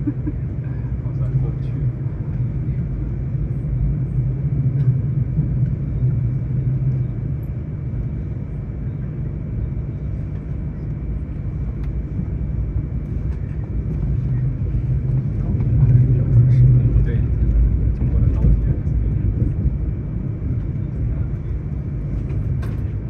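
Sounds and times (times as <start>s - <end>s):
train interior rumble: 0.0s - 23.0s.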